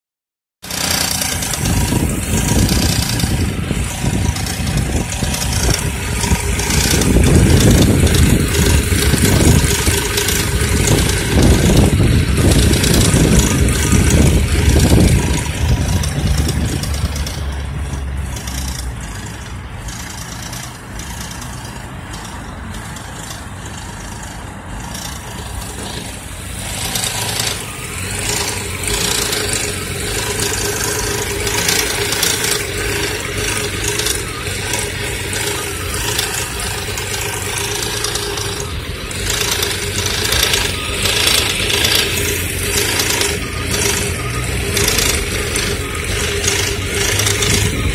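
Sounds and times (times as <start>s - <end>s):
engine running with metallic rattle: 0.6s - 47.9s.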